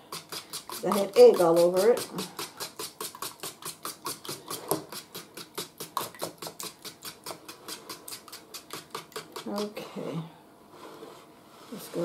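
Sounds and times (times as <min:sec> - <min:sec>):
fork beating eggs in a pan: 0:00.0 - 0:09.9.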